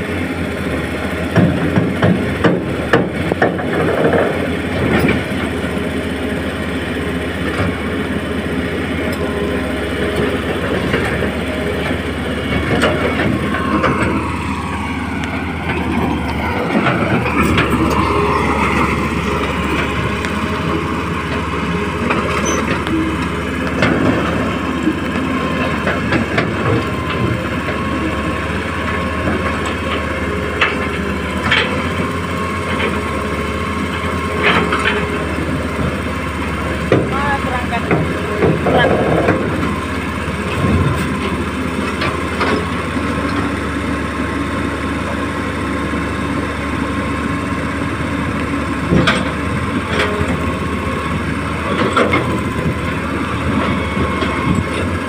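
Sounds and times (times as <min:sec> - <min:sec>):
electric motors whining: 0:00.2 - 0:55.0.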